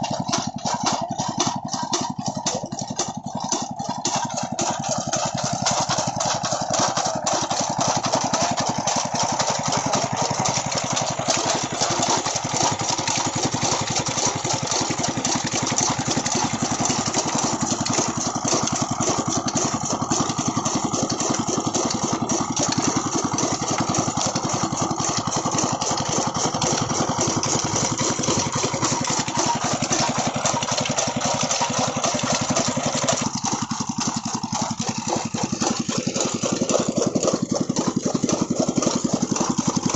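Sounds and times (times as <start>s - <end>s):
stationary diesel engine running: 0.0s - 39.9s.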